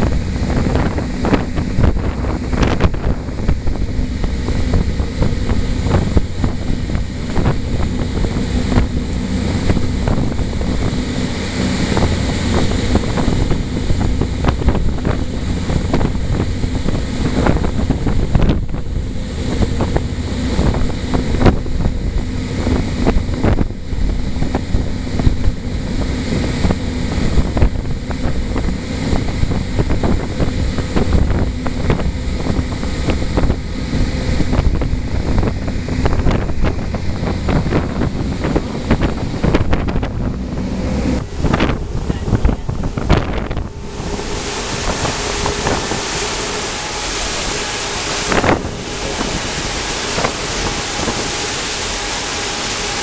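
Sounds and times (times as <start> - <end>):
ferry engines droning: 0.0 - 53.0
wake rushing along hull: 0.0 - 53.0
wind buffeting microphone: 0.0 - 53.0.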